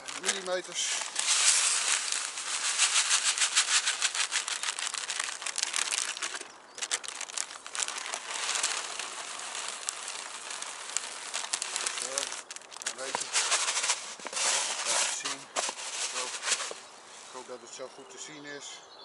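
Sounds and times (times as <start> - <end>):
pellets pattering into bowl: 0.0 - 16.8
plastic bag crinkling: 0.0 - 17.4.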